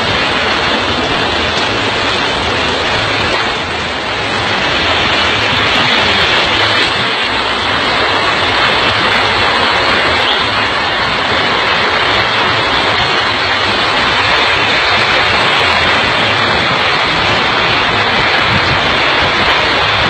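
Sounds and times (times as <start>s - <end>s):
heavy rain: 0.0s - 20.0s
rushing floodwater: 0.0s - 20.0s.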